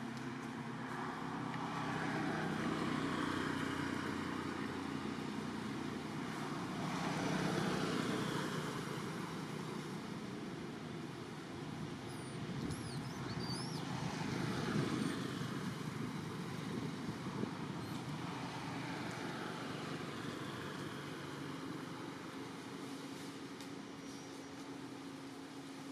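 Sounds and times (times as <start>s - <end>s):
road traffic passing: 0.0s - 25.9s.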